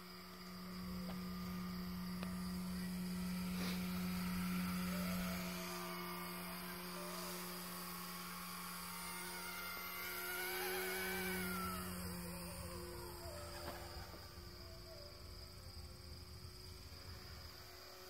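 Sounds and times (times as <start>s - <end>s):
drone propellers buzzing: 0.0s - 18.0s.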